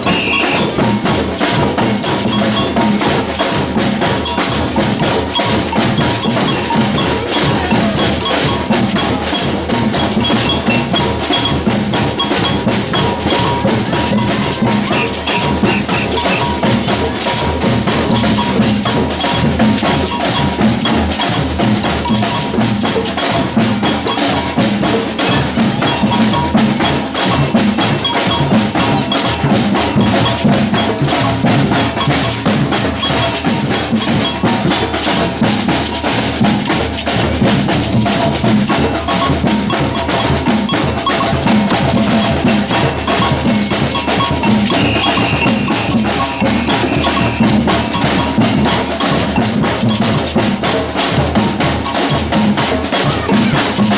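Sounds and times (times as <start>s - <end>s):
samba percussion ensemble: 0.0s - 53.9s.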